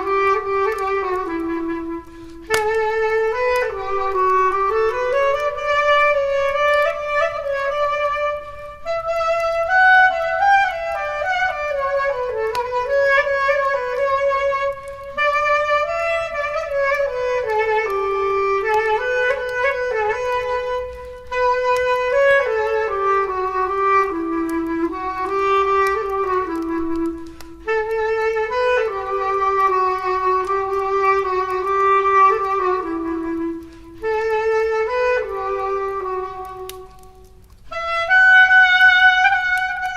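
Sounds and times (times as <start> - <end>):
solo clarinet melody: 0.0 - 39.9.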